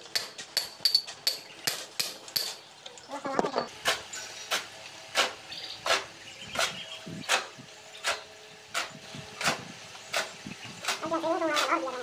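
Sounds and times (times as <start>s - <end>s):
hand tool striking: 0.0s - 2.6s, 3.8s - 11.8s.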